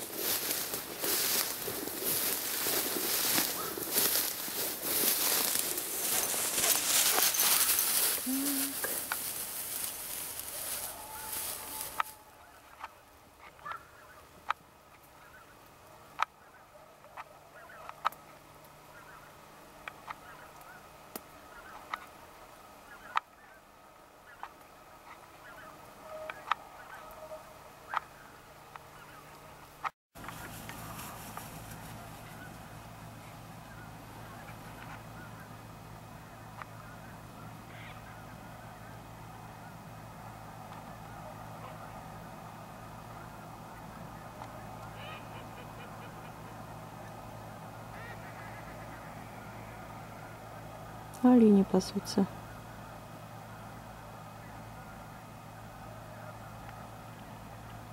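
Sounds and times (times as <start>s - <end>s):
distant honking bird calls: 0.0s - 57.5s
steady low hum: 0.0s - 57.9s.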